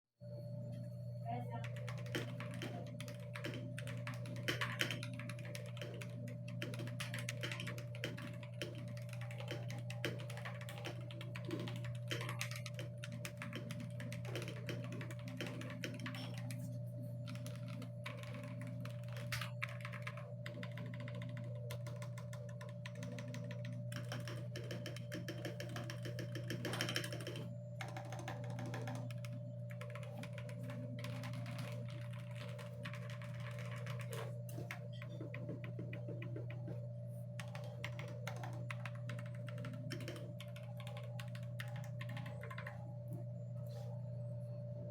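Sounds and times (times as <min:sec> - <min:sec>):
mechanical keyboard typing: 0:01.6 - 0:36.8, 0:37.4 - 0:42.8.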